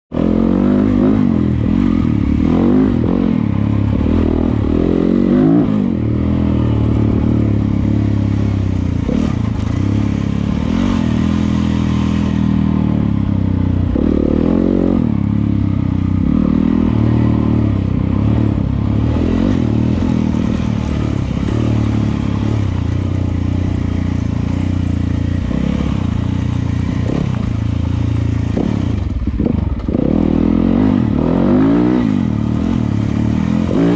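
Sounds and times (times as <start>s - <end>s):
dirt bike engine revving: 0.1s - 33.9s.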